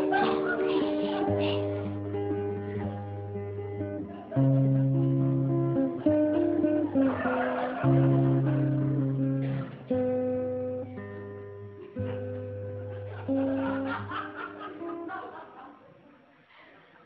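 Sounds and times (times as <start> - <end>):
acoustic guitar strumming chords: 0.0 - 15.4.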